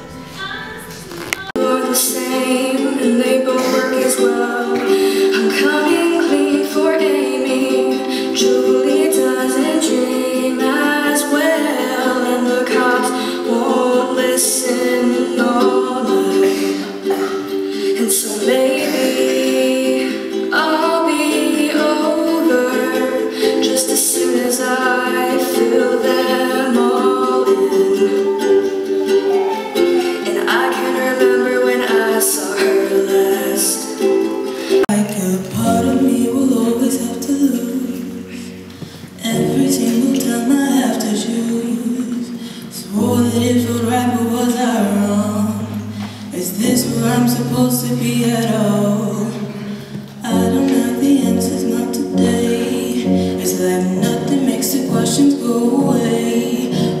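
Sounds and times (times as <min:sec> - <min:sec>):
person singing: 0:00.0 - 0:57.0
strummed ukulele chords: 0:00.0 - 0:57.0
young woman singing: 0:00.0 - 0:57.0.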